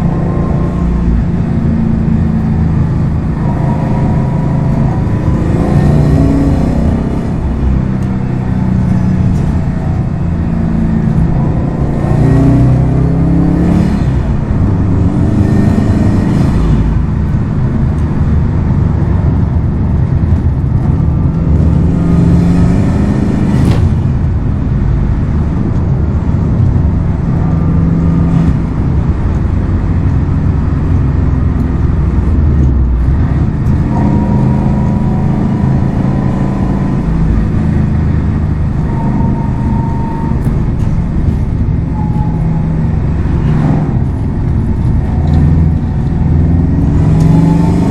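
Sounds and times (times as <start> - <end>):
car engine and exhaust revving: 0.0 - 47.9.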